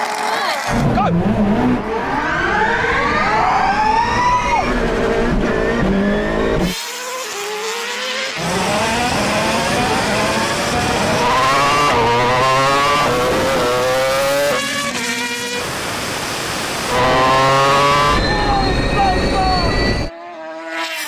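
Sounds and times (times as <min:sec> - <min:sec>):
race engines accelerating: 0:00.0 - 0:21.0.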